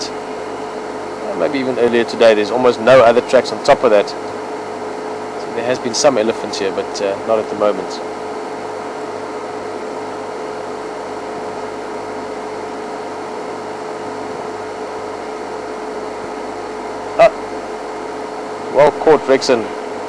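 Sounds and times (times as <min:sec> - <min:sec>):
mechanical hum with whine: 0:00.0 - 0:20.0.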